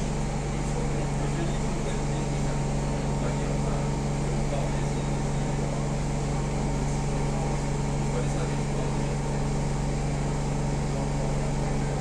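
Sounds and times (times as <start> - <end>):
train air-conditioning hum: 0.0 - 12.0.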